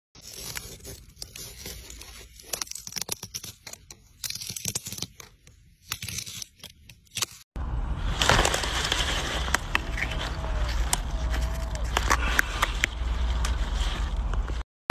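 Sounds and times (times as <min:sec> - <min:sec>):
root vegetable crackling as carved: 0:00.2 - 0:07.5, 0:08.2 - 0:13.7.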